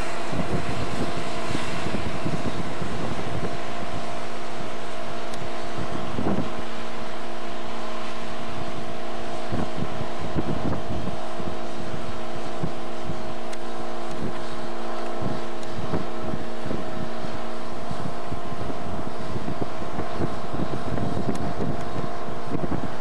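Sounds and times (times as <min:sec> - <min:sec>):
machine engine humming: 0:00.0 - 0:23.0
wind buffeting microphone: 0:00.0 - 0:23.0.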